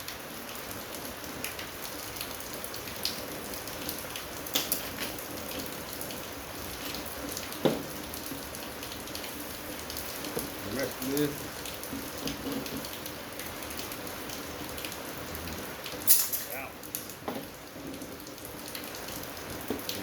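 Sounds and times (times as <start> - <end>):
steady patter like rain: 0.0 - 20.0.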